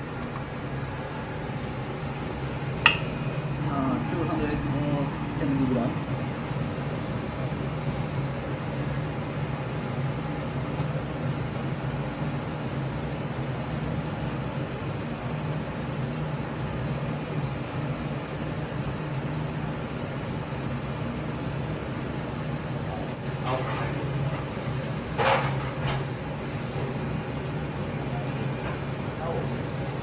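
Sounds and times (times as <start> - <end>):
kitchen ventilation hum: 0.0 - 30.0.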